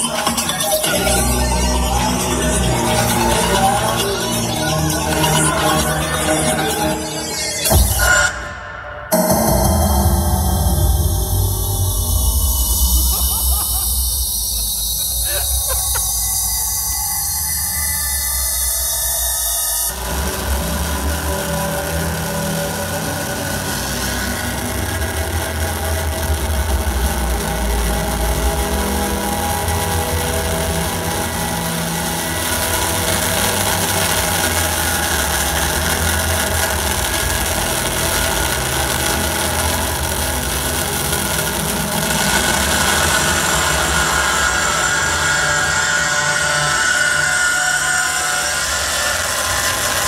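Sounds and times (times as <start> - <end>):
harsh noise music: 0.0 - 50.0.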